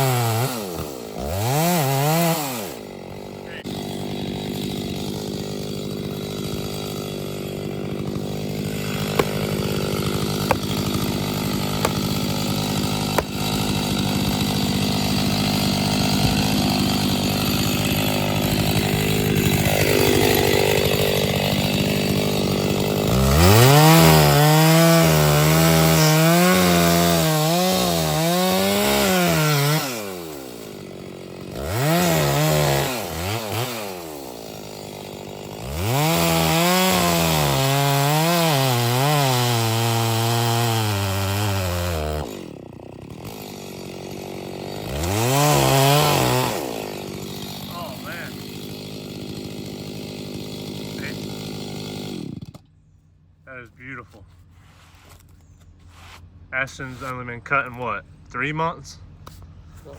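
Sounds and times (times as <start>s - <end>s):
chainsaw cutting wood: 0.0s - 52.8s.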